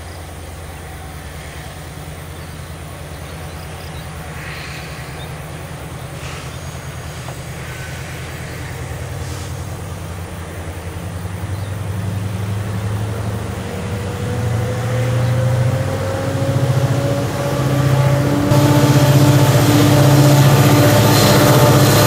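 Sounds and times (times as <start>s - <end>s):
diesel locomotive engine rumble: 0.0s - 22.0s
faint rising whine: 0.0s - 22.0s.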